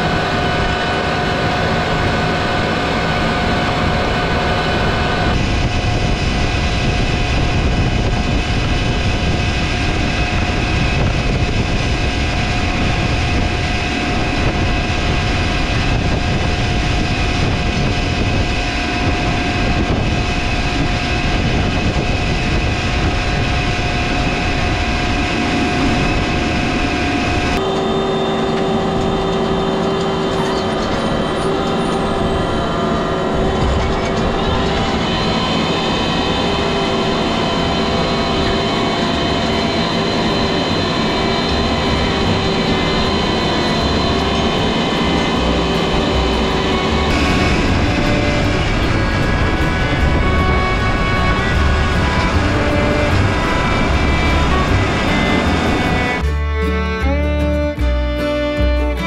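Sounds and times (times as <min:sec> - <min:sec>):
tractor engine rumbling: 0:00.0 - 0:59.0.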